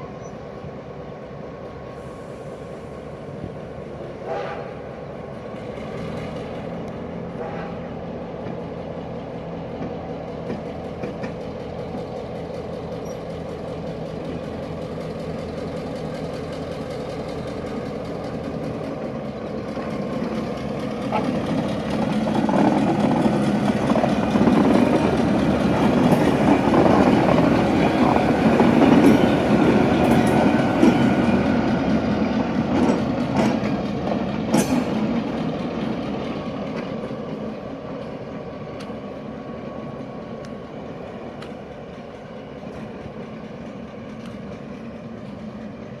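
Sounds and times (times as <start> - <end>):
train running by: 0.0 - 46.0.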